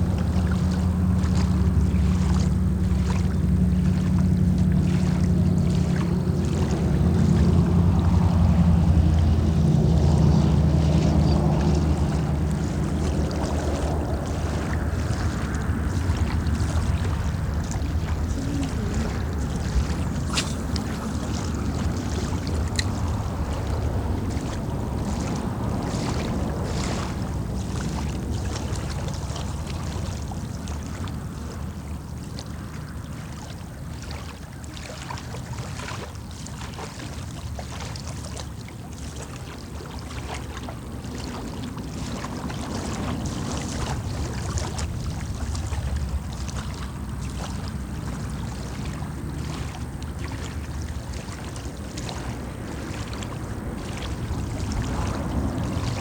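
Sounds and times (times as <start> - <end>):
water lapping and trickling: 0.0 - 56.0
wind rumbling on microphone: 0.0 - 56.0.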